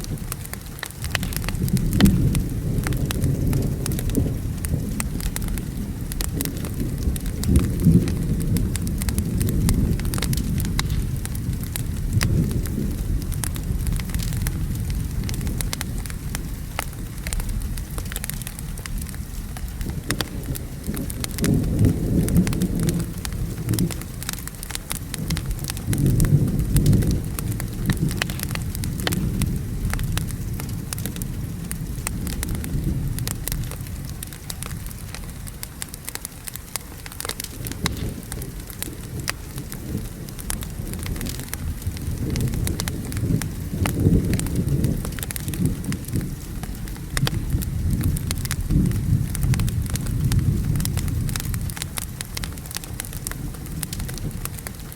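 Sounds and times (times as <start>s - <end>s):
log fire crackling: 0.0s - 54.9s
steady rain: 0.0s - 54.9s
thunder rumbling: 0.0s - 54.9s.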